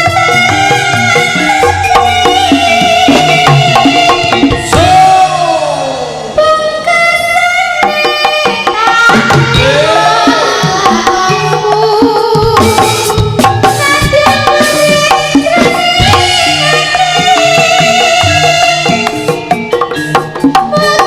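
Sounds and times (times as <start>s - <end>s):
drums beating busy rhythm: 0.0s - 21.0s.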